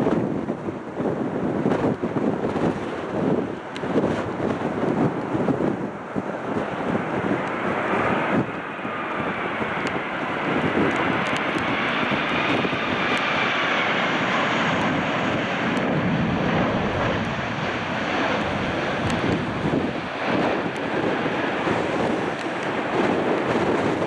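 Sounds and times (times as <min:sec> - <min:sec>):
jet airliner passing overhead: 0:00.0 - 0:24.0
wind buffeting microphone: 0:00.0 - 0:24.0.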